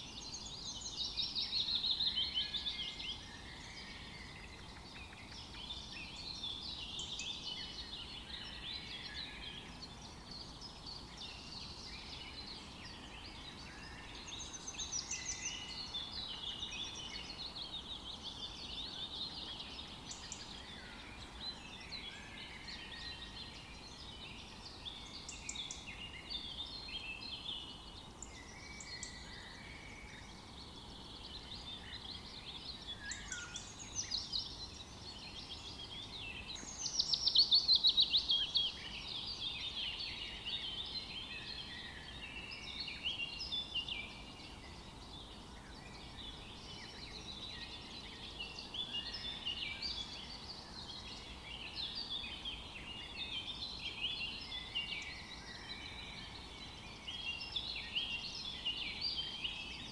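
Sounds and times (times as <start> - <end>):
faint background hiss: 0.0 - 59.9
songbirds singing and chirping: 0.0 - 59.9.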